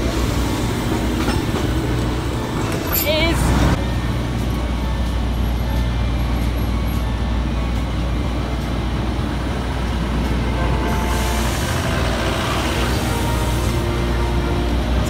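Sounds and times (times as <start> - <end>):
road noise: 0.0 - 15.0
vehicle engine rumbling: 0.0 - 15.0.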